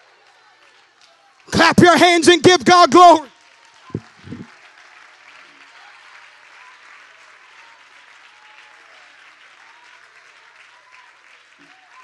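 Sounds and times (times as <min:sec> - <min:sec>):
congregation clapping: 0:00.2 - 0:12.0.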